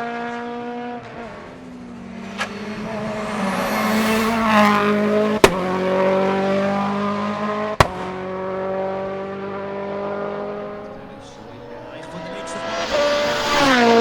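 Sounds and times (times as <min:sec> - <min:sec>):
race car engine accelerating: 0:00.0 - 0:14.0.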